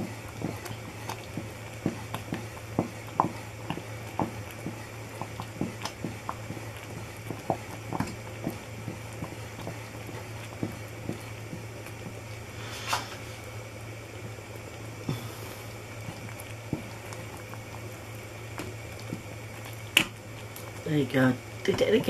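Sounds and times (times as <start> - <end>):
fudge boiling in a pan: 0.0 - 22.0
steady low hum: 0.0 - 22.0.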